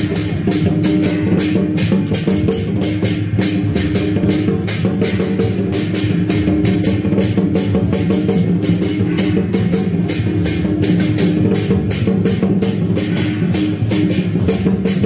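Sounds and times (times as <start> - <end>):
fast even drumbeat: 0.0 - 15.0.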